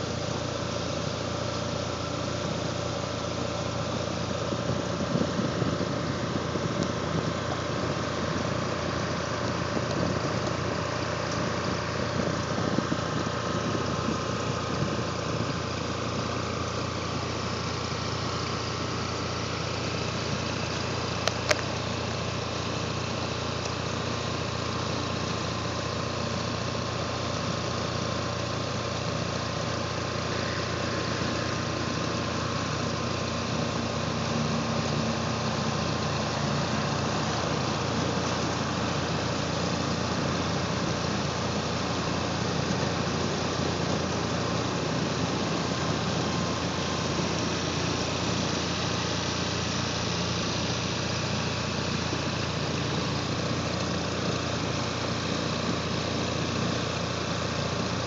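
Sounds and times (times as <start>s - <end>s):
boat motor drone: 0.0s - 58.0s.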